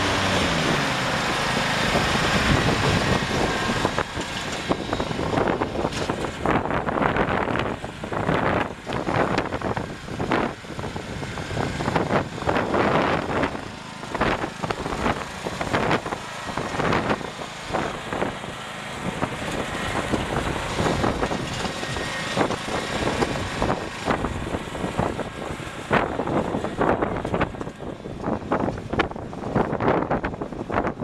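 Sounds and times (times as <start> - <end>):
riding lawn mower engine running: 0.0 - 31.0.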